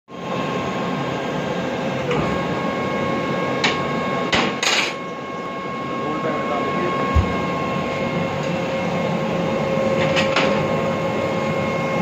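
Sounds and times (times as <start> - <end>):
air compressor humming and whining: 0.1 - 12.0.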